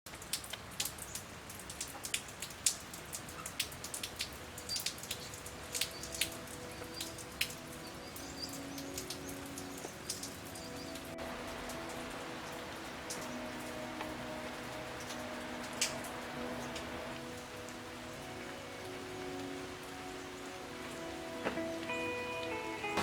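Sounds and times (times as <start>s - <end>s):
rain falling: 0.0s - 23.0s
faint held music notes: 3.4s - 23.0s.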